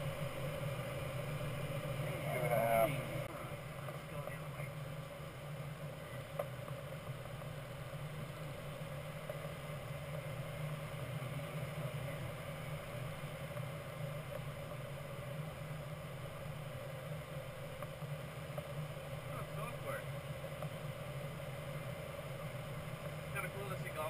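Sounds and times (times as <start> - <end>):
airflow rushing around cockpit: 0.0 - 24.0.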